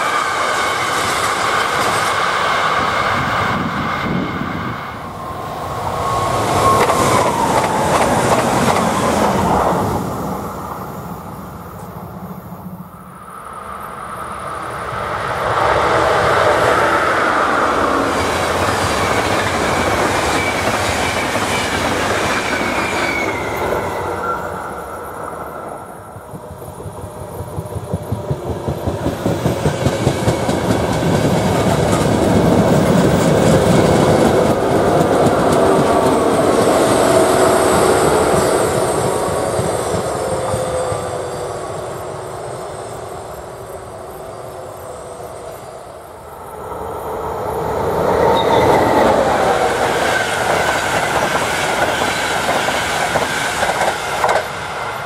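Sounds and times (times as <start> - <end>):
electric locomotive whine: 0.0 - 55.0
train rumbling past: 0.0 - 55.0.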